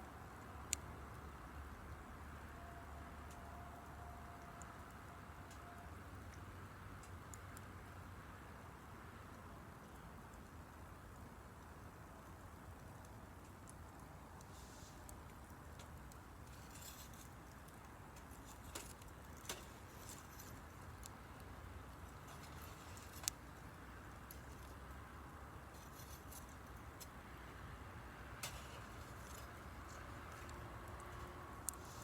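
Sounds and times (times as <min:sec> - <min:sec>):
low steady hiss: 0:00.0 - 0:32.0.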